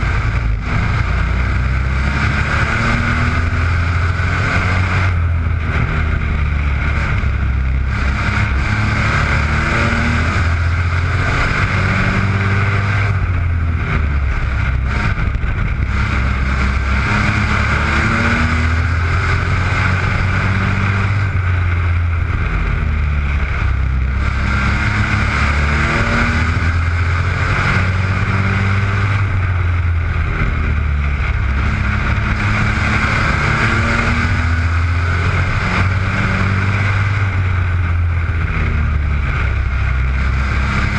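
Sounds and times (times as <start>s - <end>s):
racing truck engines droning: 0.0s - 40.9s.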